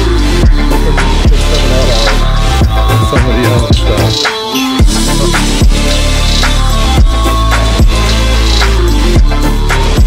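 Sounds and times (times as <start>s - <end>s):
music with bass and drum beat: 0.0s - 10.0s.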